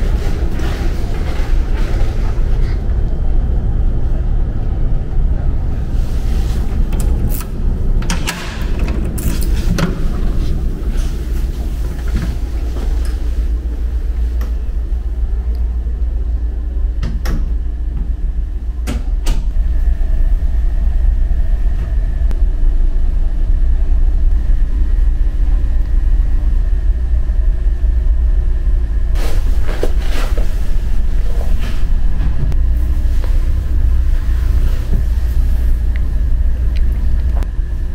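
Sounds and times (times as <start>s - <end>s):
ferry machinery rumble: 0.0s - 37.9s.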